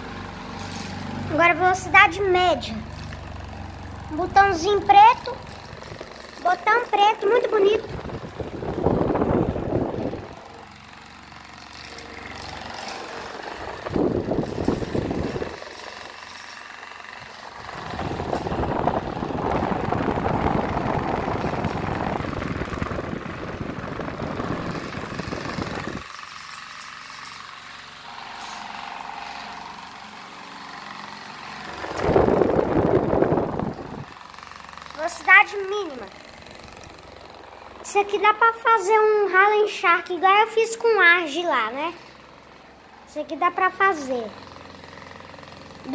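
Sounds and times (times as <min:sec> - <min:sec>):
table fan running: 0:00.0 - 0:45.9.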